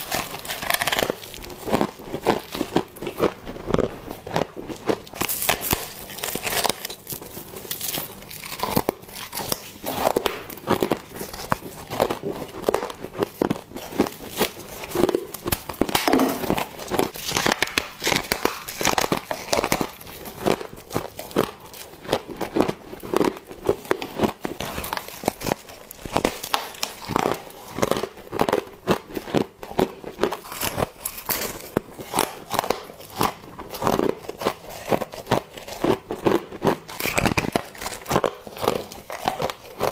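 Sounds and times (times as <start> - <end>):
crisp crunching bites: 0.0 - 39.9.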